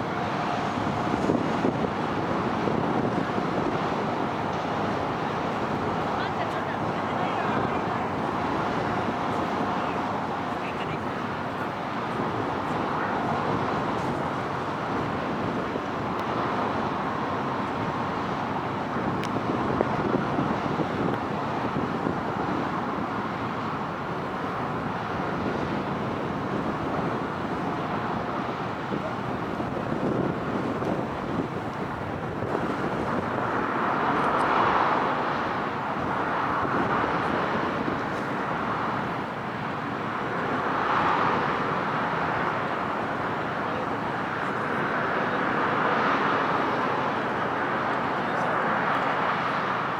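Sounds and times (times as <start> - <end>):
ferry engines and propeller wash: 0.0 - 49.9.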